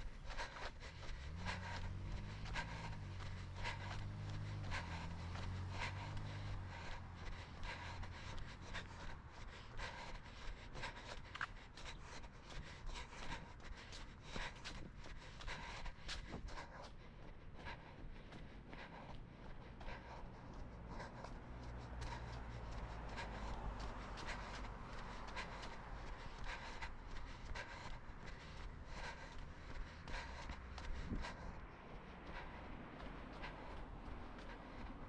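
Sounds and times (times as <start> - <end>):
road traffic hum: 0.0 - 35.0.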